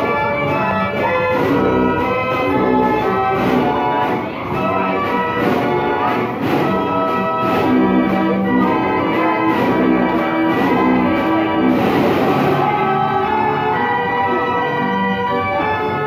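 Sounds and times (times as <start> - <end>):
band organ playing a tune: 0.0 - 16.0.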